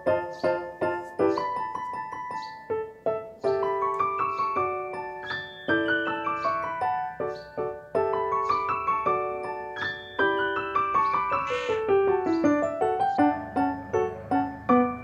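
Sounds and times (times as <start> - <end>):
background piano melody: 0.0 - 15.0.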